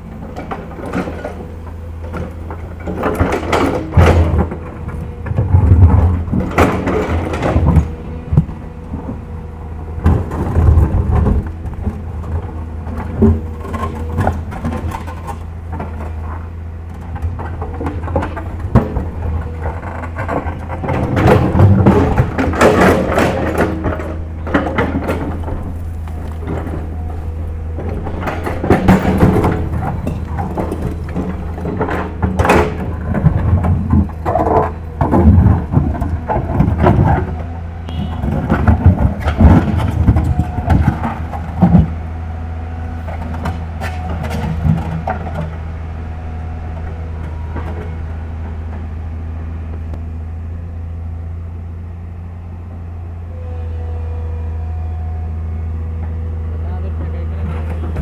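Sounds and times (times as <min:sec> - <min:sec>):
diesel excavator engine running: 0:00.0 - 0:58.0.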